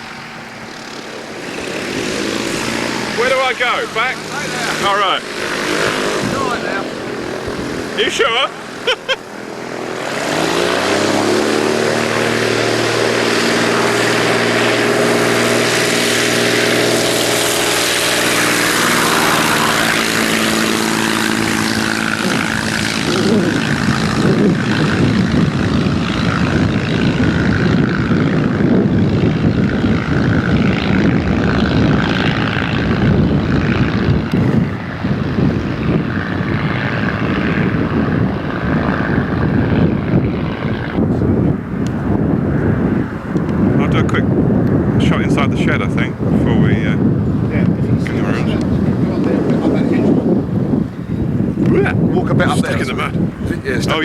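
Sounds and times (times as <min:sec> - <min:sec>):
propeller aircraft engine: 0:00.0 - 0:54.0.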